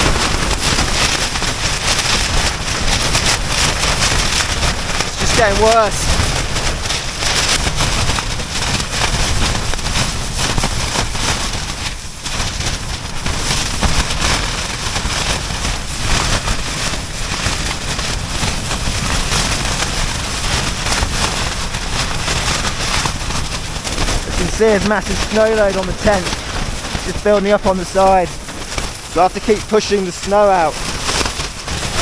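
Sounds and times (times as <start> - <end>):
snow hitting tent: 0.0 - 32.0
tent fabric flapping: 0.0 - 32.0
wind battering a tent: 0.0 - 32.0.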